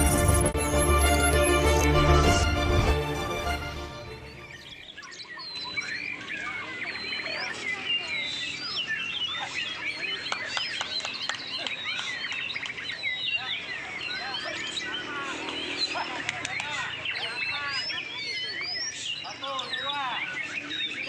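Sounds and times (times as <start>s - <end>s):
birds singing: 3.6s - 21.0s.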